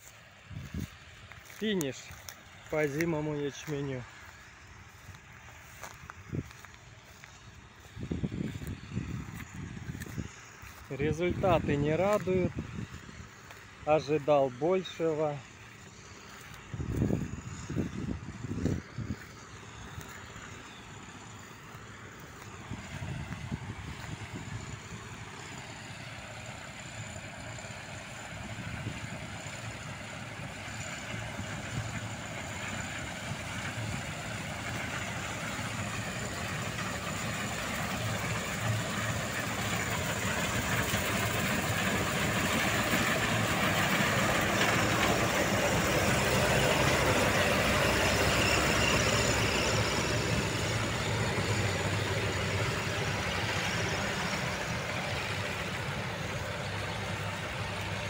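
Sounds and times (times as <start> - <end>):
combine harvester working: 0.0 - 58.0.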